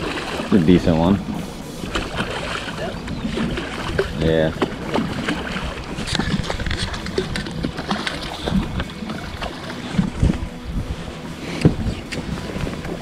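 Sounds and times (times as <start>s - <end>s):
fish thrashing splashes: 0.0s - 10.6s
water slapping boat hull: 0.0s - 13.0s
wind buffeting microphone: 0.0s - 13.0s.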